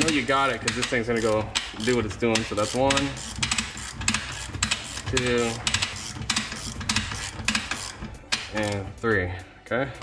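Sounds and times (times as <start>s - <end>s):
ratchet wrench clicking: 0.0s - 9.2s.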